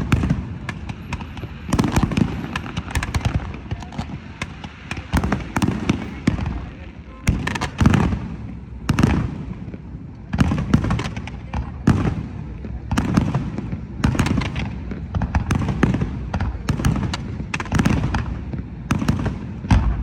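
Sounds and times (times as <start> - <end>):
fireworks bangs: 0.0 - 20.0
fireworks crackling and rumbling: 0.0 - 20.0.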